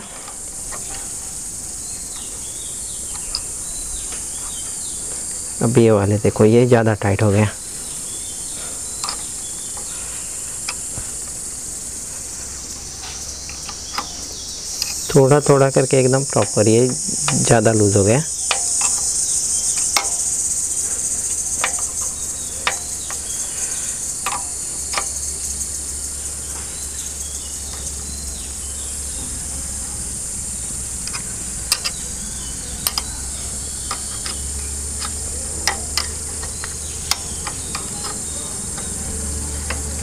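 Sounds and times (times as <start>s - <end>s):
light metallic clicks: 0.0s - 5.4s, 7.8s - 11.6s, 12.8s - 28.5s, 30.8s - 40.0s
high-pitched buzz: 7.3s - 40.0s.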